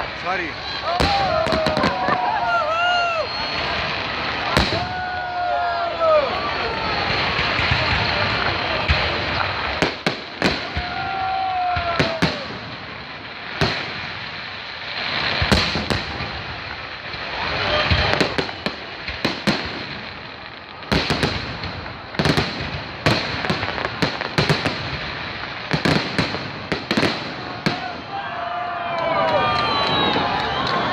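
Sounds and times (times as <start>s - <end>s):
crowd noise: 0.0s - 30.9s
fireworks bursting with sharp bangs: 0.0s - 30.9s.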